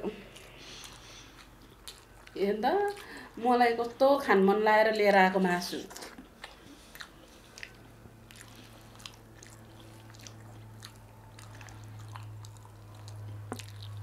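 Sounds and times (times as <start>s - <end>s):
person chewing food: 0.0s - 3.4s, 5.9s - 14.0s
steady low hum: 0.0s - 14.0s.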